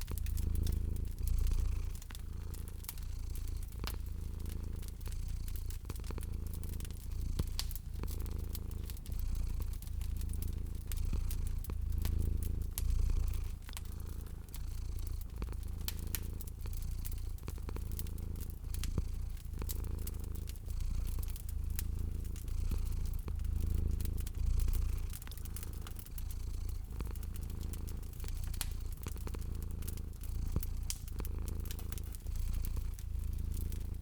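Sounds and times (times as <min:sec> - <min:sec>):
cat purring: 0:00.0 - 0:34.0
wood fire crackling: 0:00.0 - 0:34.0.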